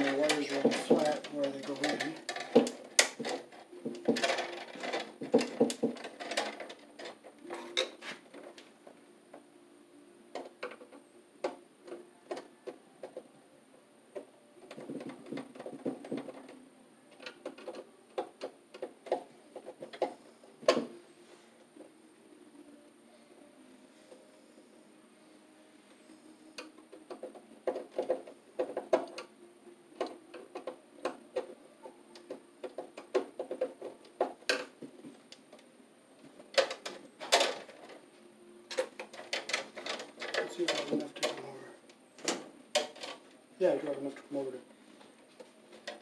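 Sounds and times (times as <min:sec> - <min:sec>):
wires clicking and tapping: 0:00.0 - 0:09.4, 0:10.3 - 0:13.3, 0:14.1 - 0:20.9, 0:26.5 - 0:44.3, 0:45.0 - 0:46.0
wires rustling: 0:00.0 - 0:09.4, 0:14.1 - 0:25.1, 0:25.7 - 0:46.0.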